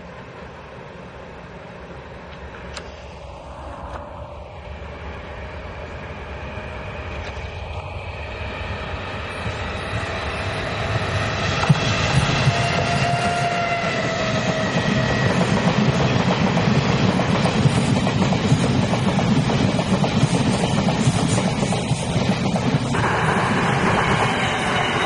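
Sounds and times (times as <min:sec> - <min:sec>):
train wheels rumbling over track: 0:00.0 - 0:25.0.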